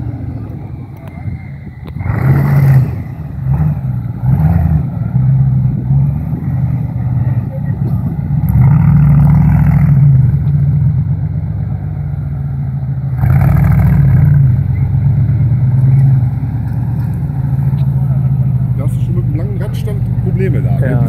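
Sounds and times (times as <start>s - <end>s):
engine revving under load: 0.0s - 21.0s.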